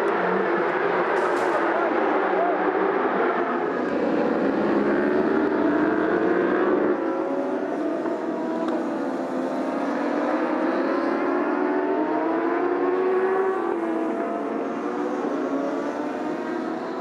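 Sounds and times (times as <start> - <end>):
motorcycle engines accelerating: 0.0 - 17.0.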